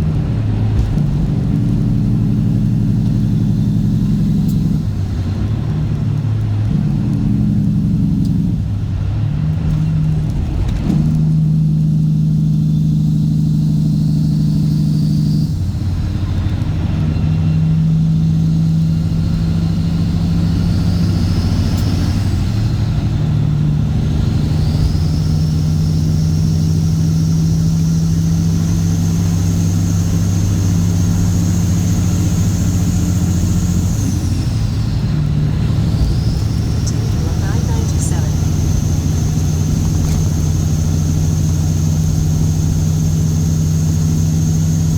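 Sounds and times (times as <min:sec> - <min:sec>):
diesel truck engine shifting gears: 0:00.0 - 0:44.9.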